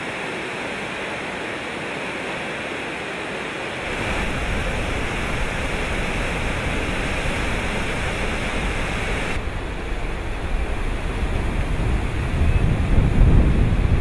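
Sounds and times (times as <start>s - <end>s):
river water roaring over falls: 0.0s - 14.0s.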